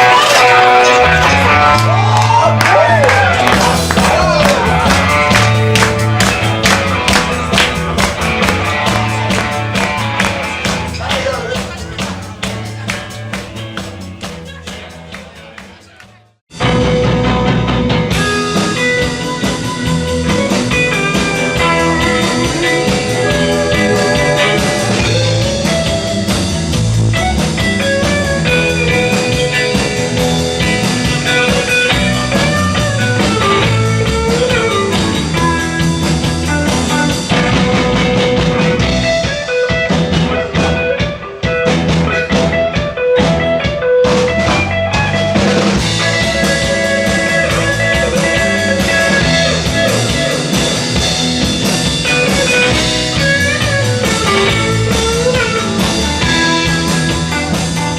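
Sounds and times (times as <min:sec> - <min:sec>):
drum kit: 0:00.0 - 0:15.9, 0:16.5 - 0:57.9
bass guitar: 0:00.0 - 0:57.9
lead guitar: 0:00.0 - 0:57.9.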